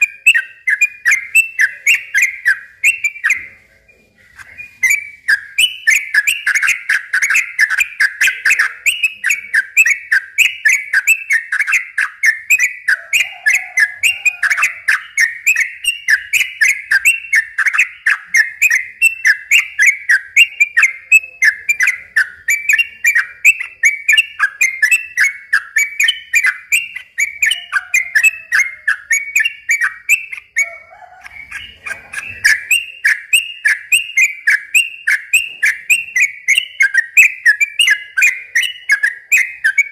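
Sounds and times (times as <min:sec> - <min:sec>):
bird singing chattering whistles: 0:00.0 - 0:39.9.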